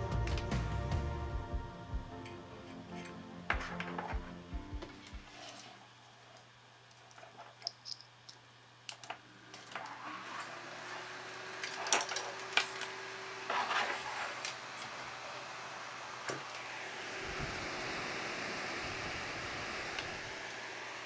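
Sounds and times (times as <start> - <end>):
fan humming: 0.0 - 21.0.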